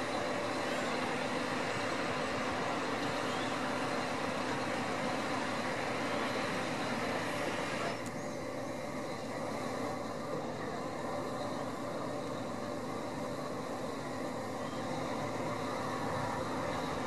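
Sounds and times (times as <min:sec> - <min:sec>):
crane diesel engine and hydraulics: 0:00.0 - 0:17.0.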